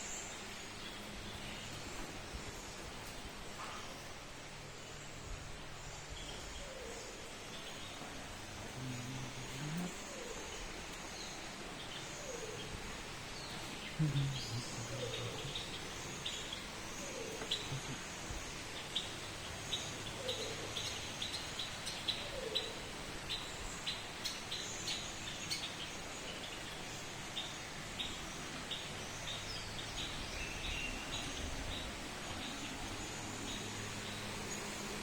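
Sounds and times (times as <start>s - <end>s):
birds chirping: 0.0s - 35.0s
steady background hiss: 0.0s - 35.0s.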